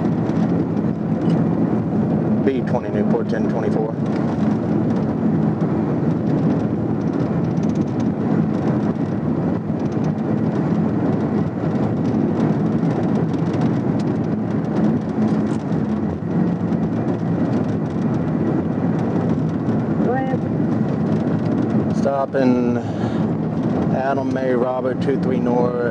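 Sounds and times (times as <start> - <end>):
road and engine noise inside car: 0.0 - 25.9.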